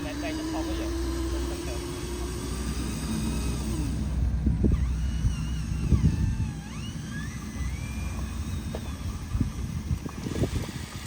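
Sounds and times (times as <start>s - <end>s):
toy truck motor whine: 0.0s - 11.0s.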